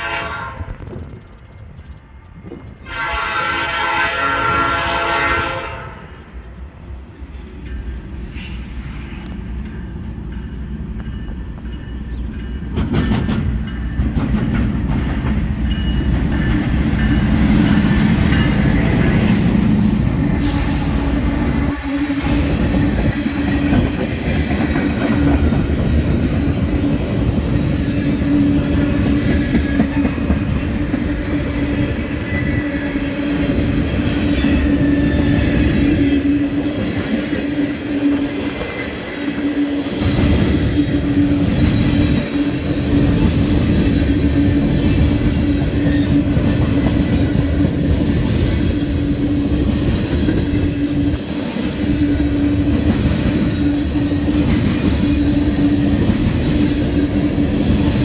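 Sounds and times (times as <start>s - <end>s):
freight train passing: 0.0s - 58.0s
wheels rumbling and clattering on rails: 0.0s - 58.0s.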